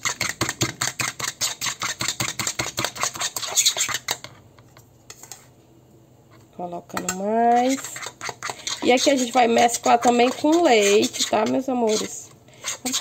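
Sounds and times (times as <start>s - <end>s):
utensil beating batter in bowl: 0.0s - 5.4s, 6.8s - 13.0s.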